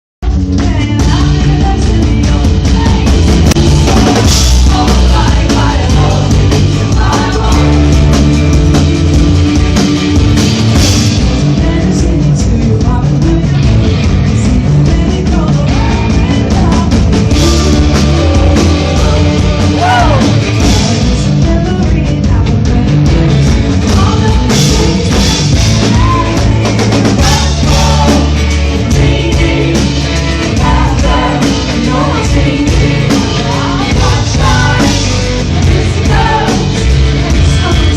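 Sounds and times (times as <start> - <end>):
live rock band playing: 0.2 - 37.9
strong steady bass: 0.3 - 37.9.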